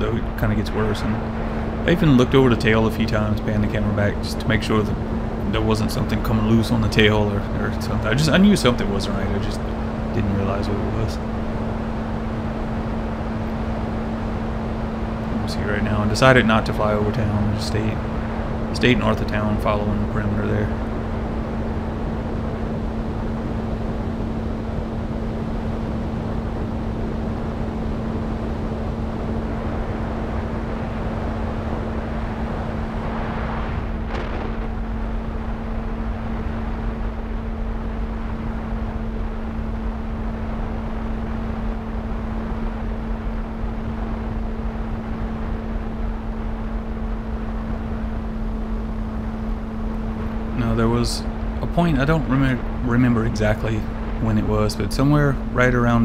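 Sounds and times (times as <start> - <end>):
electric motor and propeller hum: 0.0 - 56.0
wind rush on microphone: 0.0 - 56.0.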